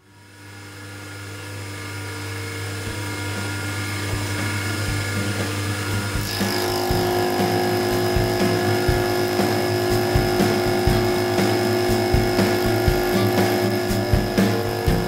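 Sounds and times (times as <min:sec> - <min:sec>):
milling machine cutting aluminium: 0:00.3 - 0:15.0.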